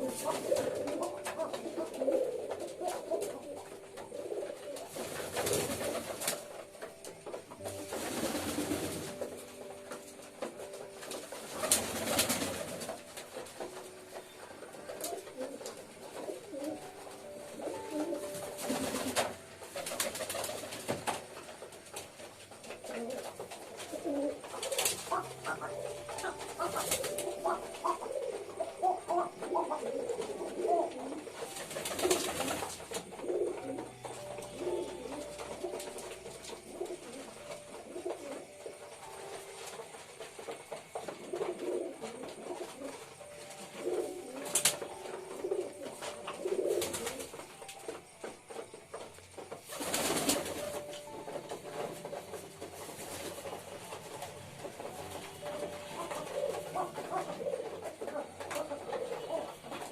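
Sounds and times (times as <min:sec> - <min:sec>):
pigeons cooing: 0:00.0 - 0:39.6, 0:40.2 - 0:47.6, 0:49.6 - 0:59.9.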